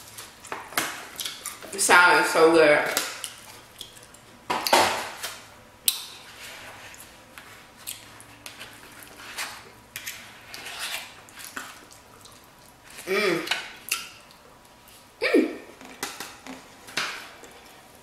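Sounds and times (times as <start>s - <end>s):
soft eating sounds: 0.0s - 1.9s, 2.8s - 4.5s, 5.2s - 18.0s.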